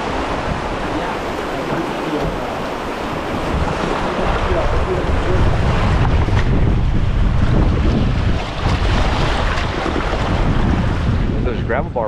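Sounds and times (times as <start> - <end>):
river water rushing and splashing: 0.0 - 11.4
wind buffeting microphone: 0.0 - 12.0.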